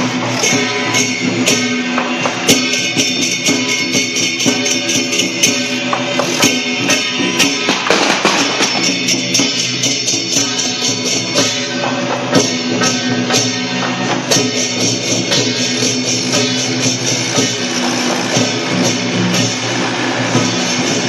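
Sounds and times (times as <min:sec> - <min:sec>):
cymbal and percussion strokes: 0:00.0 - 0:21.0
sustained melody instruments: 0:00.0 - 0:21.0.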